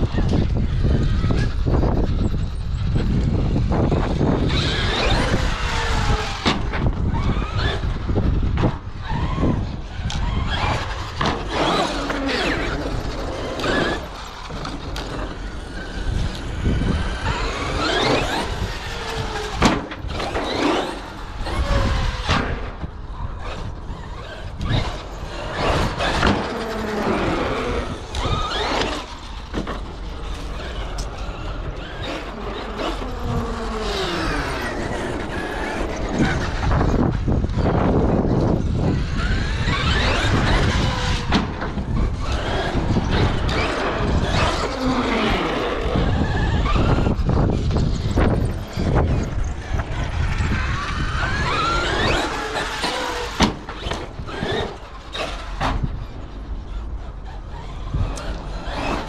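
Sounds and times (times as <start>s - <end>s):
electric motor whining: 0.0s - 59.0s
wind rumble on microphone: 0.0s - 59.0s.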